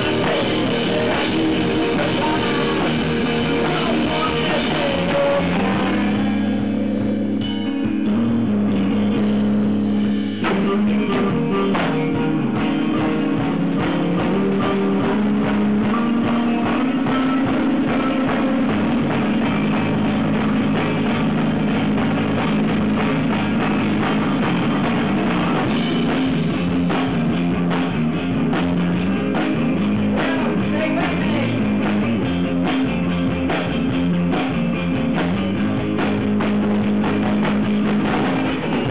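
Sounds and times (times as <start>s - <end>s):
busy drumming: 0.0s - 38.9s
rock band playing: 0.0s - 38.9s.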